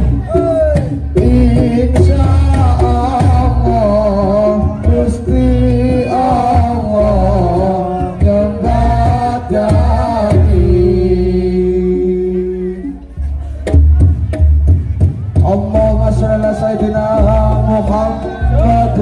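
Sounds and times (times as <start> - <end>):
person singing: 0.0 - 13.4, 15.4 - 19.0
low drum beat: 0.0 - 19.0.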